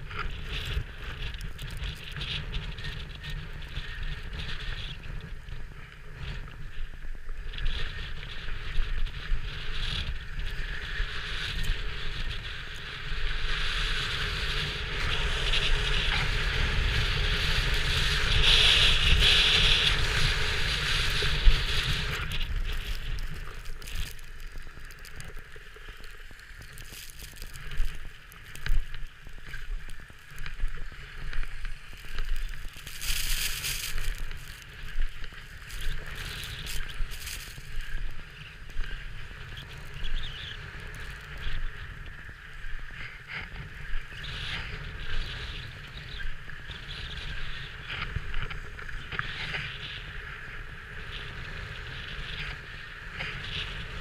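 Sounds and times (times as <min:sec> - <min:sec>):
skis scraping on snow: 0:00.0 - 0:54.0
wind buffeting microphone: 0:00.0 - 0:54.0.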